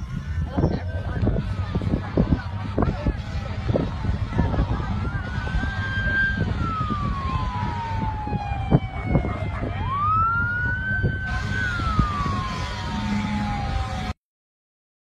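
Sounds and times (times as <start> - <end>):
steady low rumble: 0.0 - 14.1
emergency vehicle siren wailing: 0.0 - 14.2.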